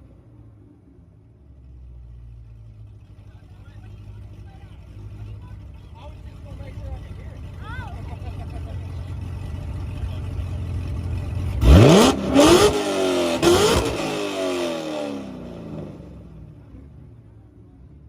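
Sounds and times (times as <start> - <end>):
car engine revving: 1.5 - 17.4.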